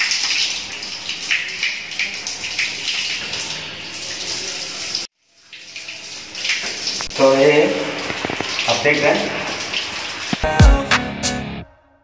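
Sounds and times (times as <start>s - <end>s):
water spraying on plastic raincoat: 0.0s - 10.5s.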